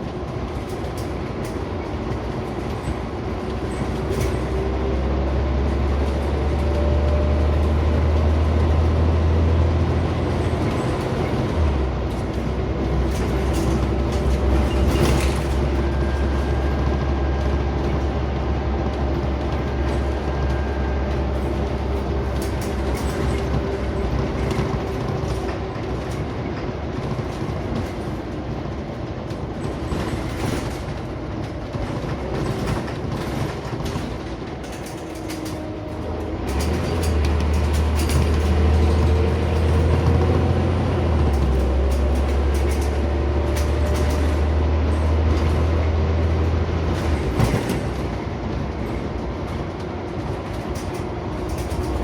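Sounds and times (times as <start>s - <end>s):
bus body rattling and knocking: 0.0s - 52.0s
bus diesel engine droning: 0.0s - 52.0s.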